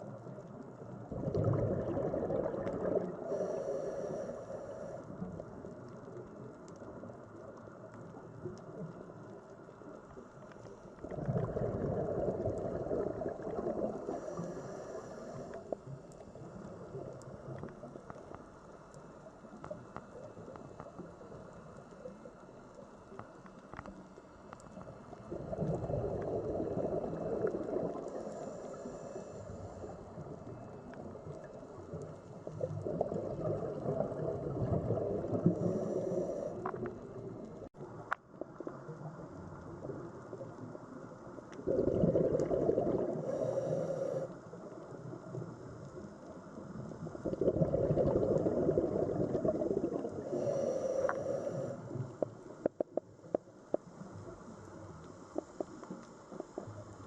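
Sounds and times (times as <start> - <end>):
sea water rushing and gurgling: 0.0 - 17.9, 24.7 - 52.7.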